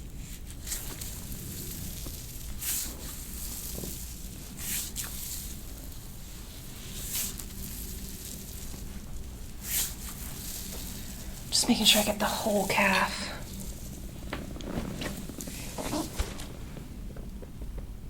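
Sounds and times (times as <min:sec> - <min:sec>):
low steady hum: 0:00.0 - 0:18.0
soft swishes of skin friction: 0:00.1 - 0:17.0.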